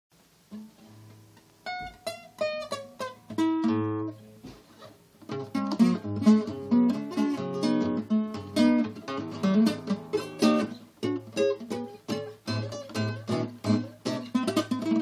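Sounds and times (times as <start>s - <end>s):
classical guitar fingerstyle: 0.5s - 15.0s.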